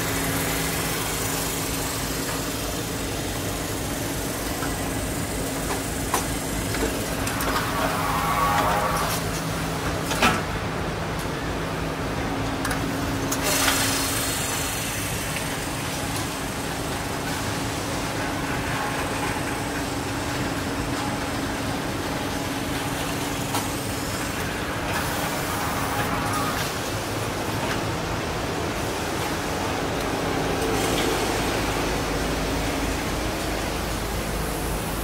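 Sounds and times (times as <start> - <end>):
factory machinery hum: 0.0 - 35.0.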